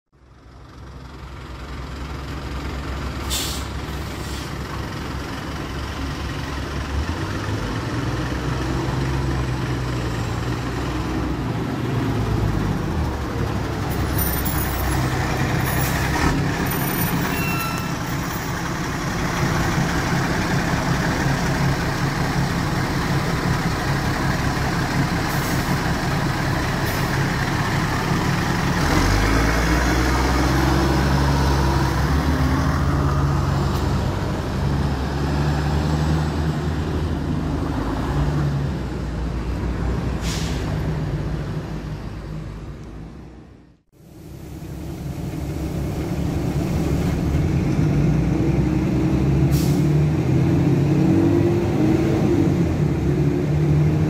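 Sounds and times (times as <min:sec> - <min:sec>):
bus diesel engine running: 0:00.2 - 0:54.0.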